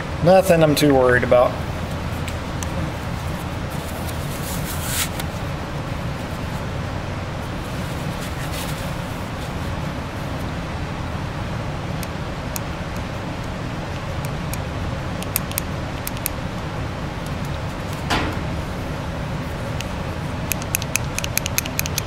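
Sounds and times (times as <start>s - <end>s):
shop heater running: 0.0s - 22.0s.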